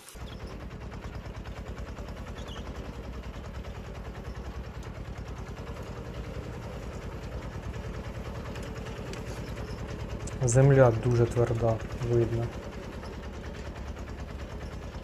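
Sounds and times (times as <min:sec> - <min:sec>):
walking tractor engine pulsing: 0:00.0 - 0:15.0.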